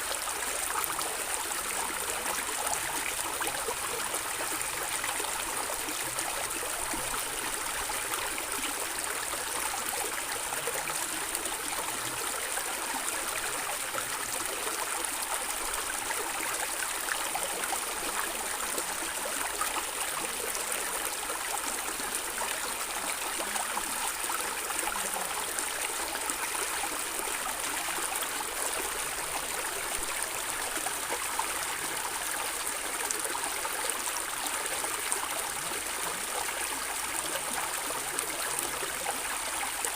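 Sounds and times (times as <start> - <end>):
stream water running and gurgling: 0.0 - 39.9.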